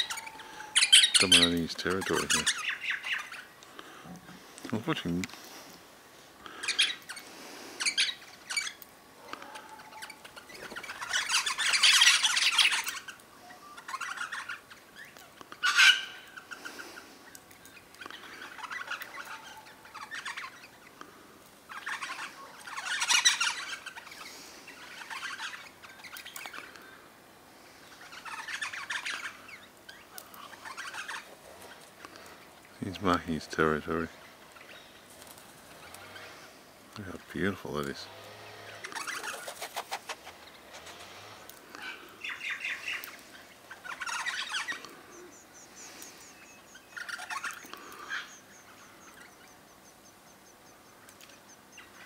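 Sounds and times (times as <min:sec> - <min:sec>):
birds chattering squawks: 0:00.0 - 0:05.7, 0:06.4 - 0:52.0.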